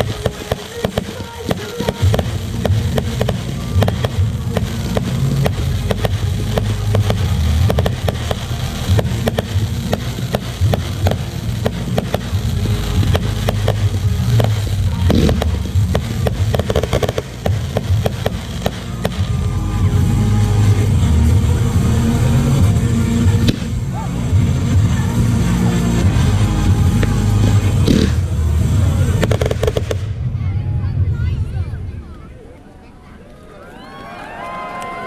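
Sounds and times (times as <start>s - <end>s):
fireworks bangs and crackles: 0.0s - 32.2s
heavy low rumble: 0.0s - 32.6s.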